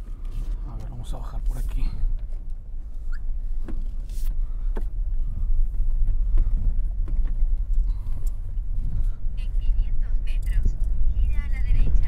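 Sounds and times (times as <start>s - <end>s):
car rumbling on dirt road: 0.0s - 12.0s.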